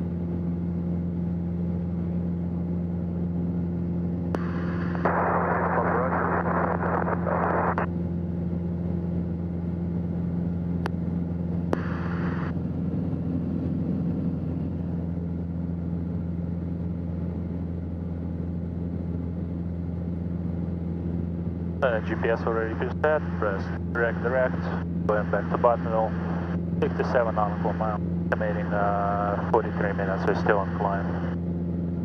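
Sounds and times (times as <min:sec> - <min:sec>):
aircraft engine and propeller droning: 0:00.0 - 0:32.0.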